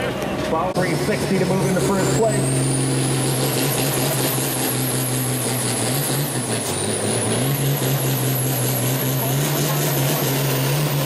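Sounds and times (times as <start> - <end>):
diesel tractor engine under load: 0.0 - 11.0.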